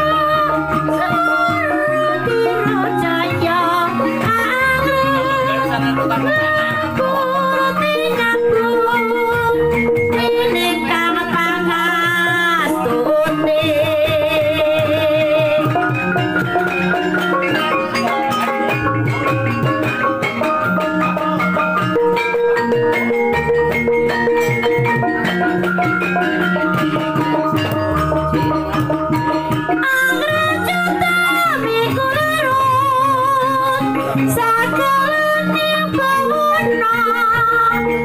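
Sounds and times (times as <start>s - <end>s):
gamelan playing: 0.0s - 38.0s
hand drum: 0.0s - 38.0s.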